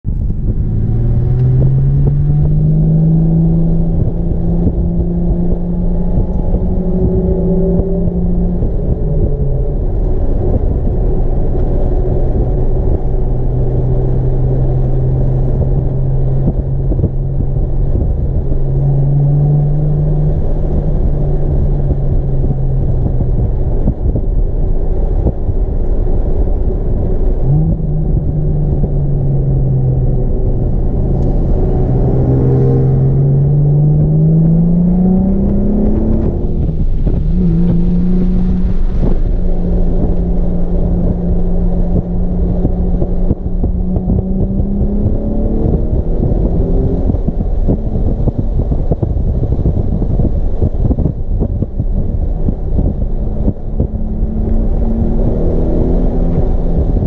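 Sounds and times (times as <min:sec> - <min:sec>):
car engine revving: 0:00.0 - 0:57.0
road and tyre rumble: 0:00.0 - 0:57.0.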